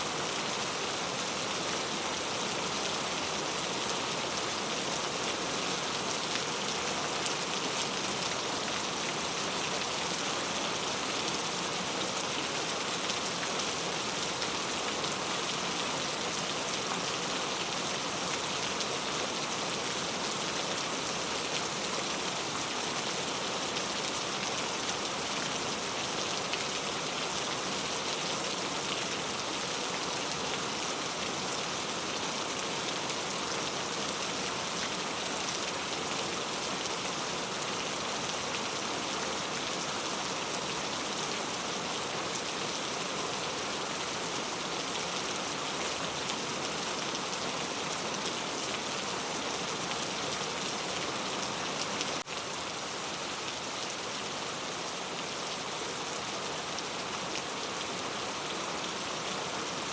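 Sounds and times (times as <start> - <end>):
rain hiss on a surface: 0.0 - 59.9.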